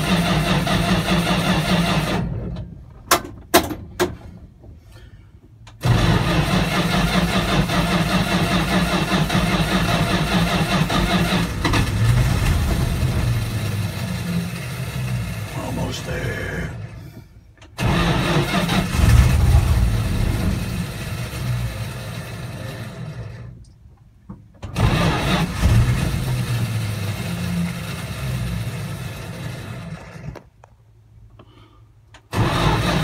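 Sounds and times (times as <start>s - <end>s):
engine starting and running: 0.0s - 4.4s, 5.4s - 30.8s, 32.1s - 33.0s.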